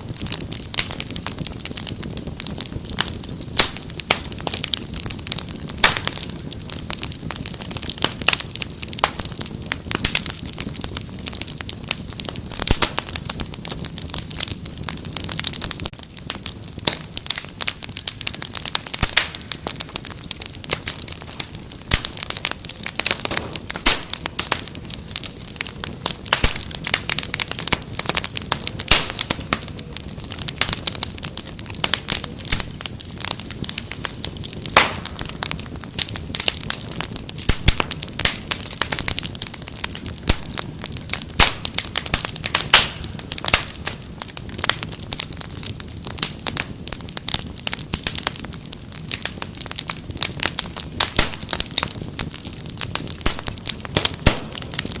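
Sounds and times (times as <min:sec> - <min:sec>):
low rush of burning: 0:00.0 - 0:55.0
sharp pops of fire: 0:00.0 - 0:55.0
wood fire crackling: 0:00.0 - 0:55.0.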